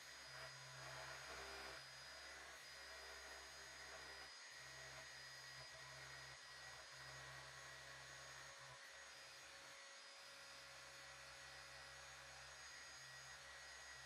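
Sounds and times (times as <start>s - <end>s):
faint electric sander whirring: 0.0s - 14.0s.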